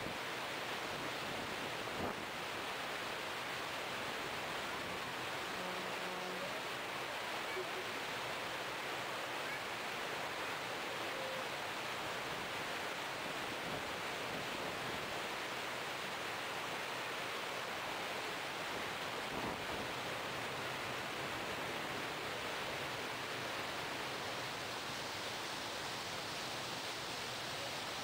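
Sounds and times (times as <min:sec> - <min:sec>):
water rushing: 0:00.0 - 0:28.0
wind: 0:00.0 - 0:28.0.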